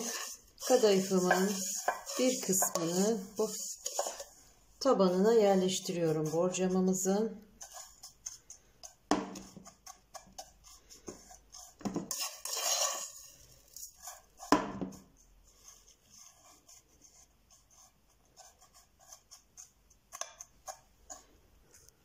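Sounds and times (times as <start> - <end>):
spoon rustling dry pastry: 0.0 - 22.0.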